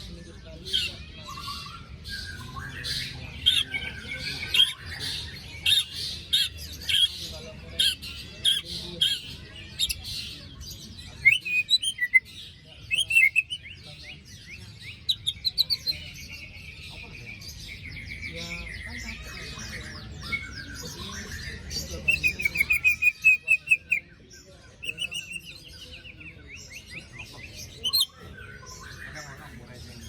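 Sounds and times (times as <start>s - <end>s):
bird calling with harsh rasping notes: 0.0s - 30.0s.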